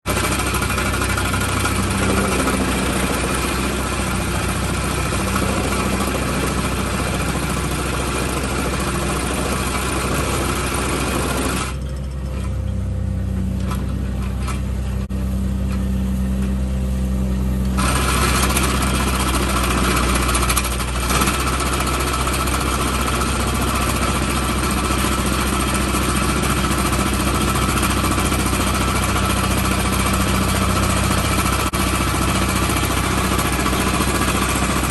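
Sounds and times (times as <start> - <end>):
excavator engine humming: 0.0 - 34.9
vibratory compactor rattling: 0.1 - 15.1, 17.6 - 34.9.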